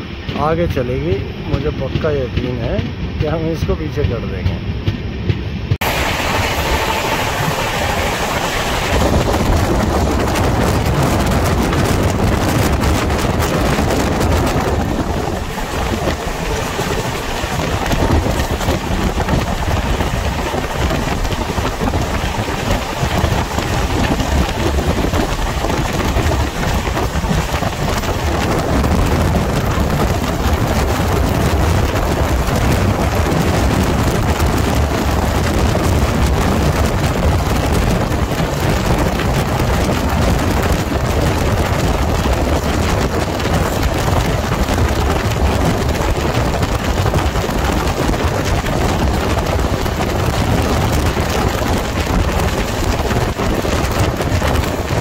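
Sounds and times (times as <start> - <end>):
train wind rush: 0.0 - 55.0
wheels rumbling on rails: 0.0 - 55.0
wind buffeting microphone: 0.0 - 55.0.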